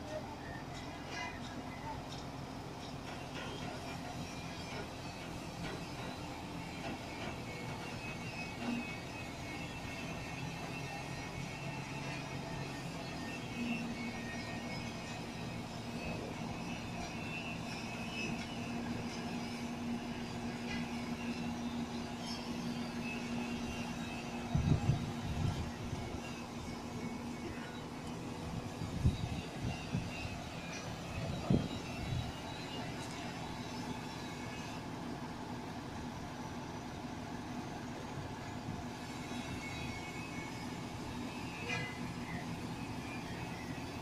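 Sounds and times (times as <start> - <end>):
crane engine humming: 0.0 - 44.0.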